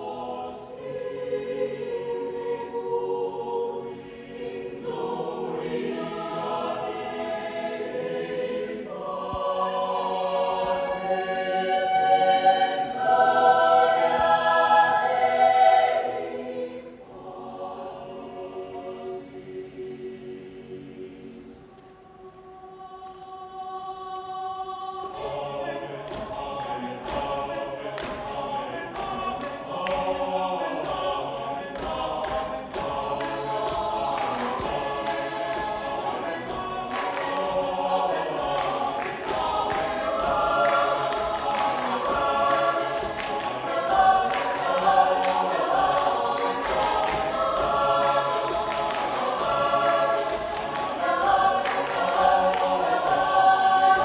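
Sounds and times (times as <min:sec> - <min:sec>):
mixed choir singing a cappella: 0:00.0 - 0:54.0.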